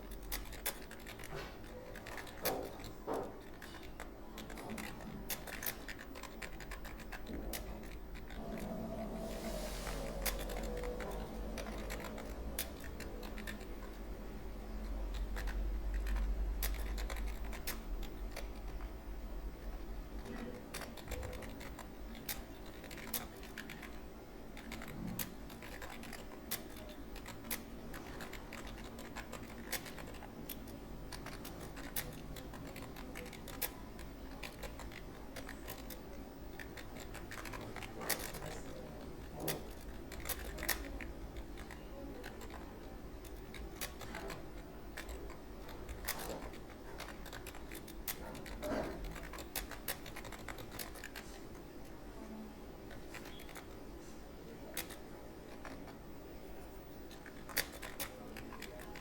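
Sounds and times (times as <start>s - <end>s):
keyboard typing clicks: 0.1s - 9.0s, 10.1s - 14.0s, 14.8s - 19.0s, 19.6s - 52.0s, 52.9s - 53.8s.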